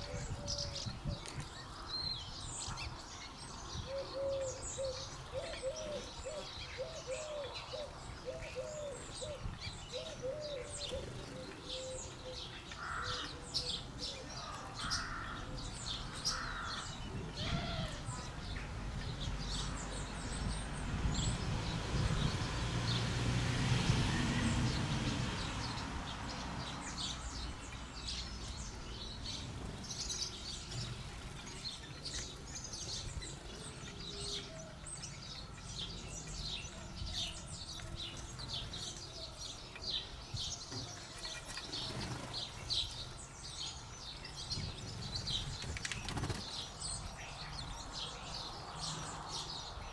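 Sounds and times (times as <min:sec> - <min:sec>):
small birds chirping: 0:00.0 - 0:23.2, 0:24.1 - 0:49.9.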